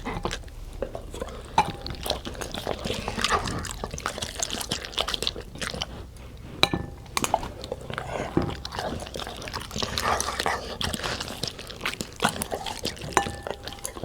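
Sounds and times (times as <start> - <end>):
dog crunching a snack: 0.0 - 14.0.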